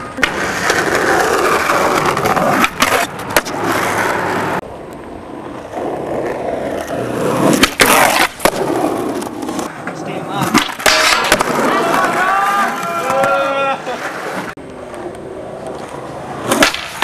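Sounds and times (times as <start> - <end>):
skateboard cracks: 0.0 - 17.0
skateboard wheels rolling on concrete: 0.0 - 17.0.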